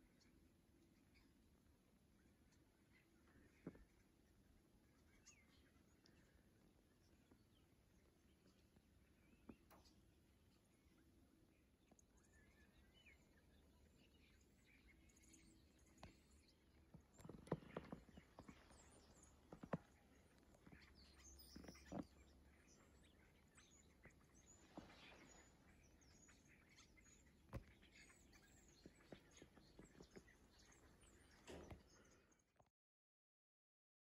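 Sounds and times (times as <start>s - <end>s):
faint bird chirps: 0.0s - 32.7s.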